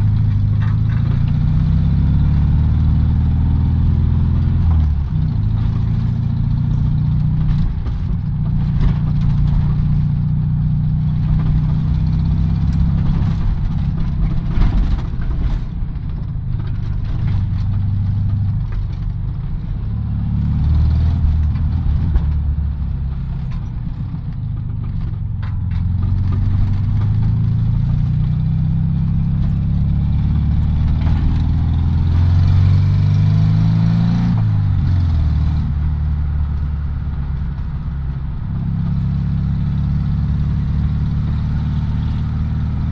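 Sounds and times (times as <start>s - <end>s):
car engine revving from inside: 0.0s - 15.6s, 19.6s - 42.9s.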